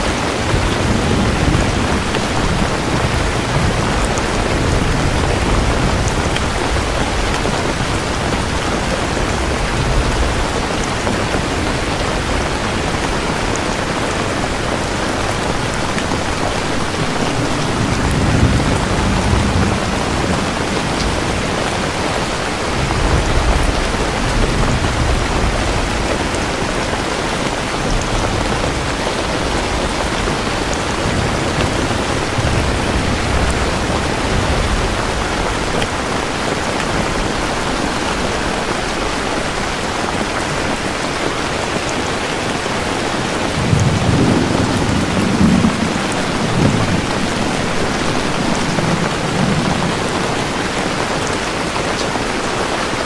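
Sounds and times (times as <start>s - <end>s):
low rolling thunder: 0.0s - 40.8s, 42.5s - 52.4s
heavy rain falling: 0.0s - 53.0s.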